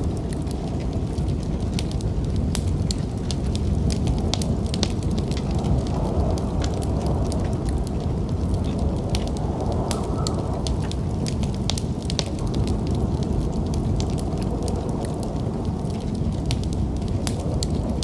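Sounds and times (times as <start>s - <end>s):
snowstorm wind rumble: 0.0s - 18.0s
wood fire crackling and popping: 0.0s - 18.0s.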